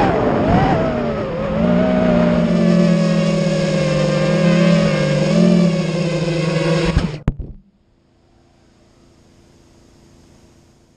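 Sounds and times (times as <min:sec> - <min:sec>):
drone propellers whining: 0:00.0 - 0:10.2.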